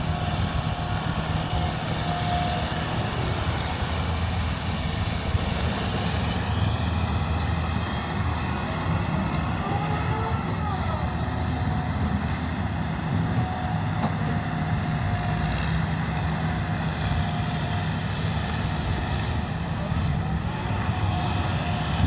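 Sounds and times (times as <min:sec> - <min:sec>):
diesel engines running under load: 0:00.0 - 0:22.0.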